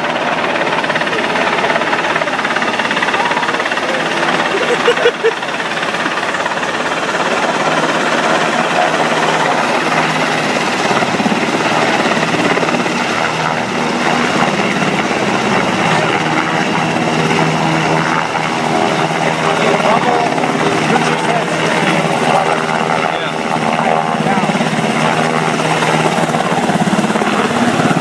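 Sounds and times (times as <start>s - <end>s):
helicopter rotor thrum: 0.0s - 28.0s.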